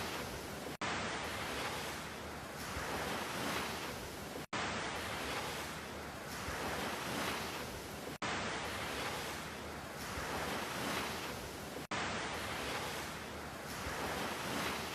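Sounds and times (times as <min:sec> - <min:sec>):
ocean waves: 0:00.0 - 0:14.9.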